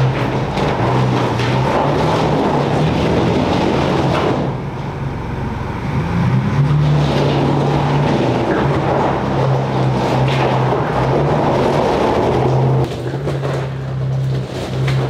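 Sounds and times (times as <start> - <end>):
off-road vehicle engine driving: 0.0 - 15.0.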